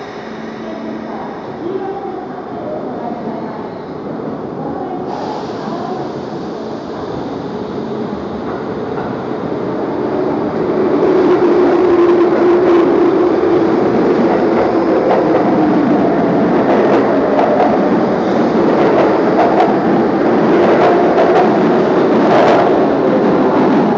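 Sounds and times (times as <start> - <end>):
train accelerating: 0.0 - 23.9.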